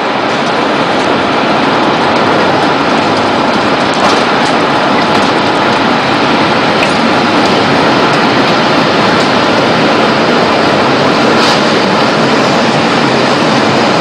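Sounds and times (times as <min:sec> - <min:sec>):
storm wind roaring: 0:00.0 - 0:14.0.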